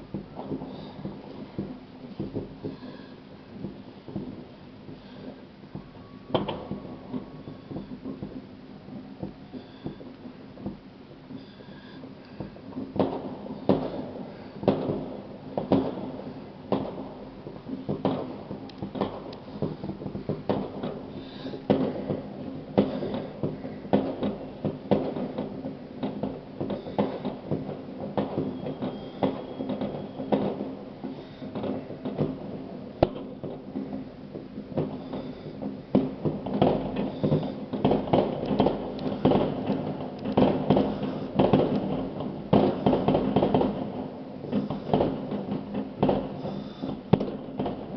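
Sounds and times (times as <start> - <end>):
fireworks and firecrackers banging: 0.0 - 47.9.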